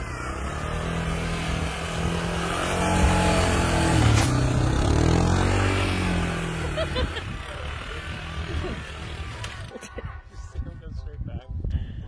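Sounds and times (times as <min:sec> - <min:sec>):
small engine revving: 0:00.0 - 0:09.8.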